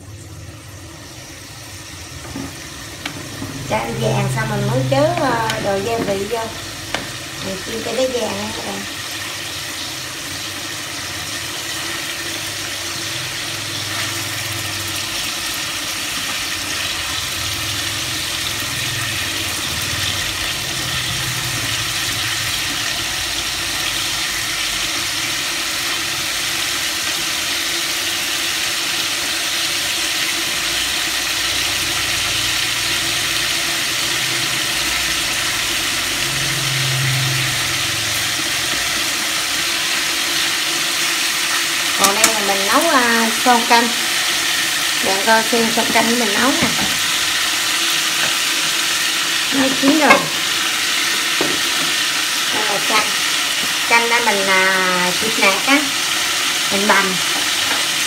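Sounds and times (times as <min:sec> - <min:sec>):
chicken sizzling in hot oil: 0:00.0 - 0:58.0.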